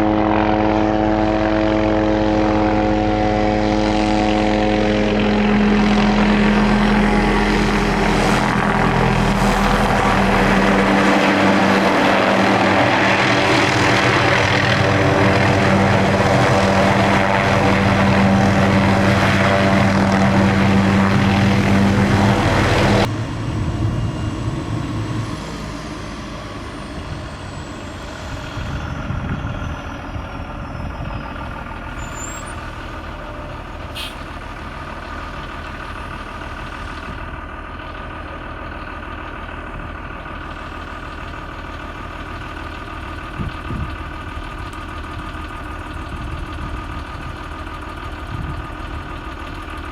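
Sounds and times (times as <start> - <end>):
helicopter running: 0.0 - 49.9.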